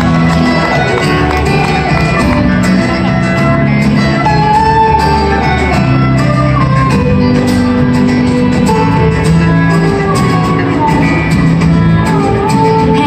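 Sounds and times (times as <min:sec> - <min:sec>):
melody of held notes: 0:00.0 - 0:13.0
plucked strings: 0:00.0 - 0:13.0.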